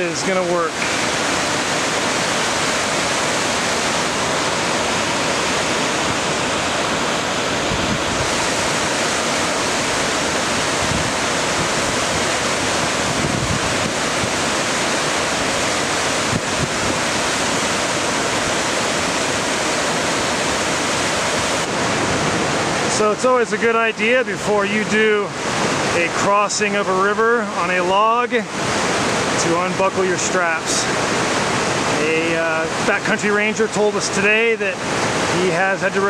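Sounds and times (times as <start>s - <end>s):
river rushing over boulders: 0.0s - 36.0s.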